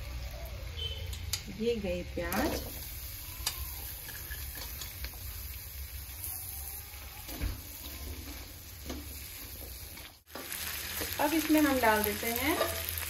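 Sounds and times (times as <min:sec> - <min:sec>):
onions frying in a pan: 0:00.0 - 0:13.0.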